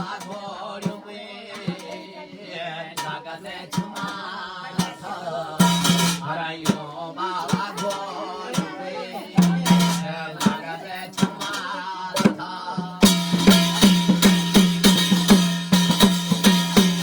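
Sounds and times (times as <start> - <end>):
man singing: 0.0 - 14.6
drum strokes: 0.0 - 17.0.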